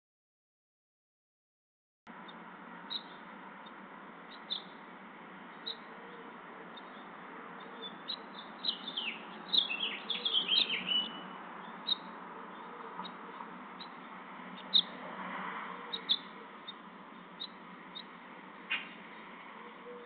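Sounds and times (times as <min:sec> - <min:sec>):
bird chirping: 0:02.2 - 0:04.8, 0:05.5 - 0:15.0, 0:15.8 - 0:20.0.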